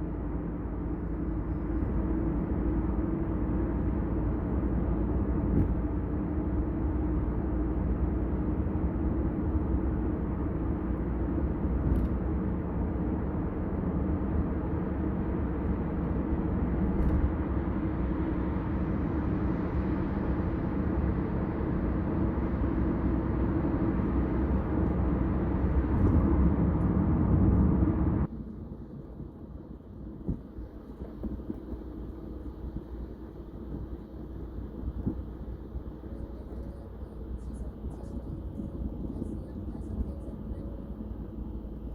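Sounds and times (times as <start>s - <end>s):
car engine hum: 0.0s - 41.9s
road and tyre rumble: 0.0s - 41.9s.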